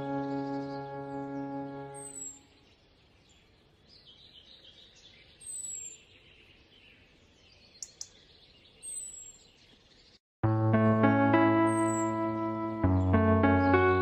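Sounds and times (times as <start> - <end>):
birds chirping: 0.0 - 10.2, 11.0 - 14.0.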